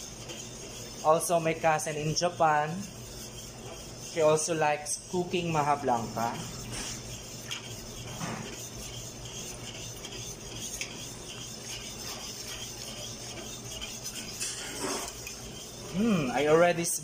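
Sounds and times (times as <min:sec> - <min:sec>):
steady low hum: 0:00.0 - 0:17.0
whisk scraping metal pot: 0:00.0 - 0:17.0.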